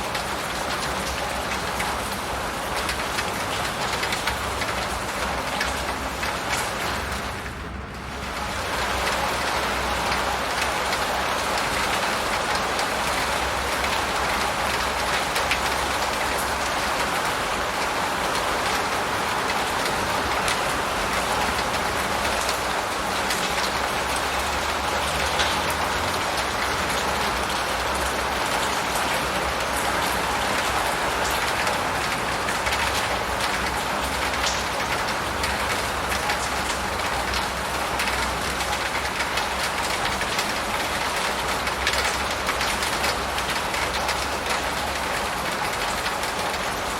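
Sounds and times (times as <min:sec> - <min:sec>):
raindrops ticking: 0:00.0 - 0:46.9
steady rain: 0:00.0 - 0:46.9.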